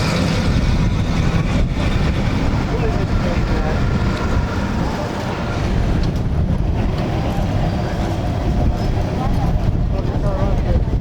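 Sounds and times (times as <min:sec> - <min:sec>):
engine idling with deep rumble: 0:00.0 - 0:11.0.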